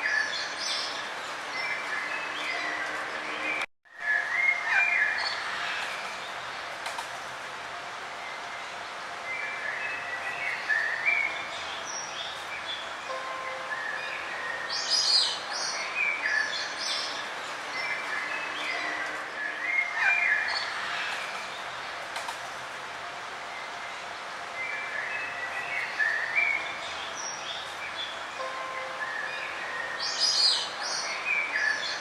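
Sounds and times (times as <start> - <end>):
songbirds chirping and trilling: 0.0 - 32.0
steady background hiss: 0.0 - 32.0.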